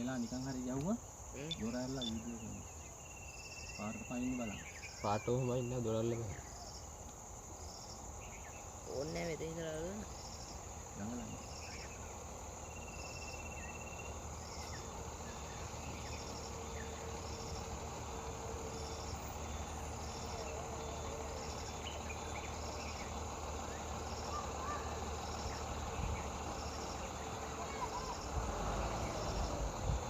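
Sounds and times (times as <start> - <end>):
high-pitched insect drone: 0.0 - 30.0
insects chirping rhythmically: 0.0 - 30.0.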